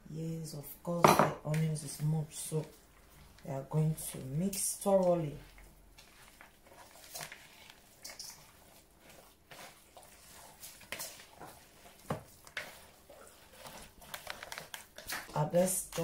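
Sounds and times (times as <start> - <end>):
hands squishing minced meat: 1.9 - 16.0.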